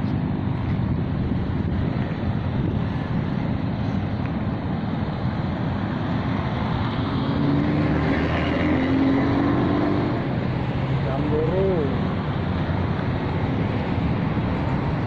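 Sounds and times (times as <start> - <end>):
street traffic rumble: 0.0 - 15.0
vehicle engine hum: 0.0 - 15.0
wind on microphone: 0.0 - 15.0.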